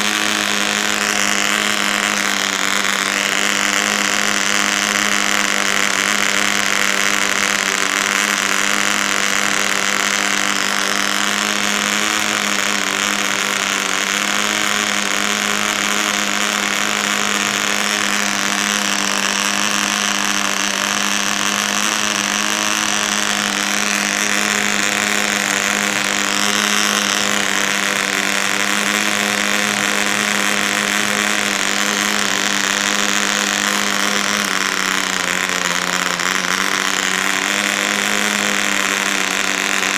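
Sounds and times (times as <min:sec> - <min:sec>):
model engine high-pitched buzz: 0:00.0 - 0:39.9.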